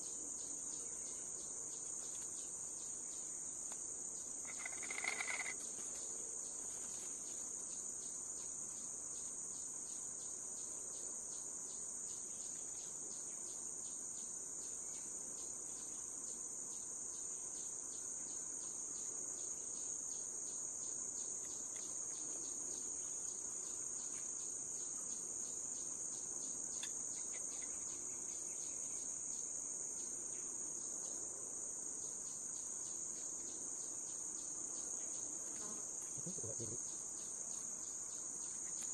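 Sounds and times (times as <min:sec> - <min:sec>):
insects buzzing: 0:00.0 - 0:38.9.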